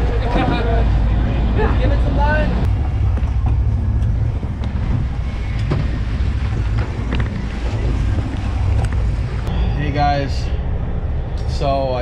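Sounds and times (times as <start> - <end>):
boat engines rumbling: 0.0 - 12.0
wind buffeting microphone: 0.0 - 12.0.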